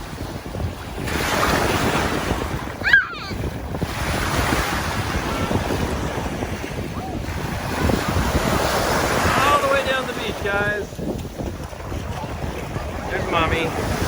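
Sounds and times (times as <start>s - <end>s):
ocean surf washing on beach: 0.0s - 14.0s
wind buffeting microphone: 0.0s - 14.0s.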